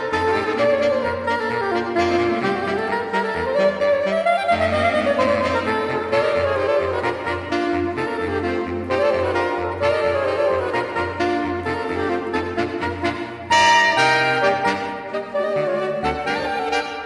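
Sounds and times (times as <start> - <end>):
saxophone quartet playing: 0.0 - 17.0.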